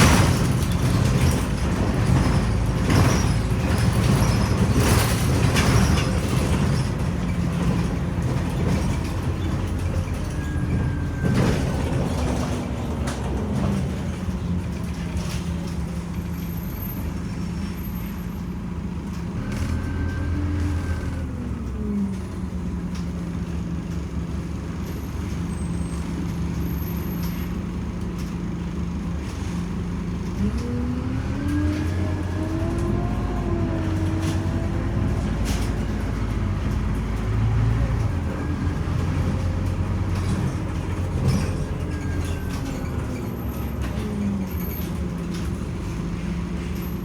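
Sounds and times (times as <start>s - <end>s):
bus engine idling and revving: 0.0s - 47.0s.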